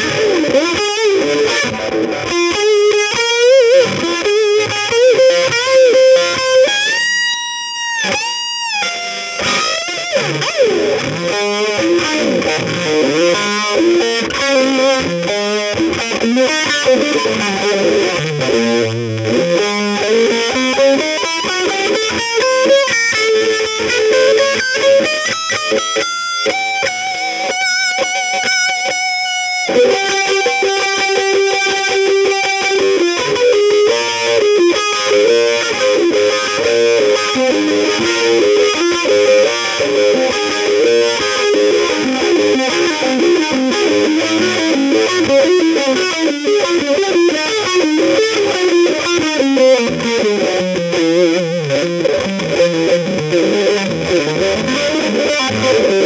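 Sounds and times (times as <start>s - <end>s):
distorted electric guitar lead: 0.0s - 56.0s.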